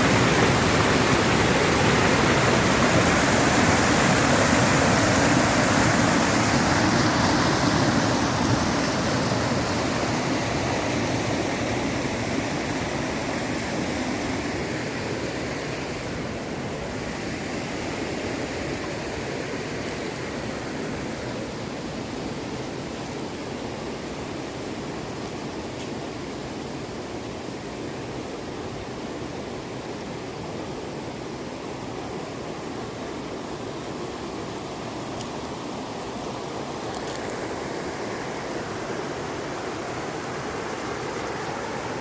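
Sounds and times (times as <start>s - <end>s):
rushing stream water: 0.0s - 42.0s.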